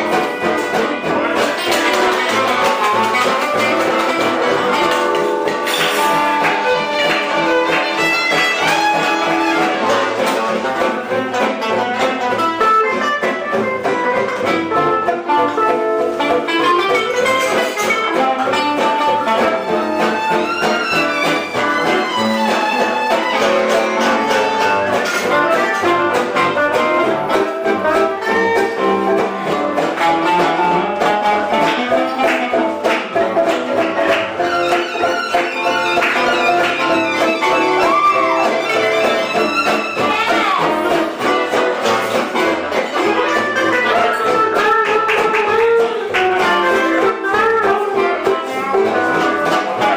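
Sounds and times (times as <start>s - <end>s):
guitar: 0.0s - 49.9s
live band playing: 0.0s - 49.9s
violin: 0.0s - 49.9s.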